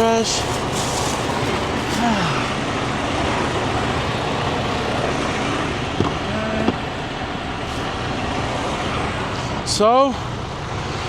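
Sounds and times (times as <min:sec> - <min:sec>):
truck idling: 0:00.0 - 0:11.0.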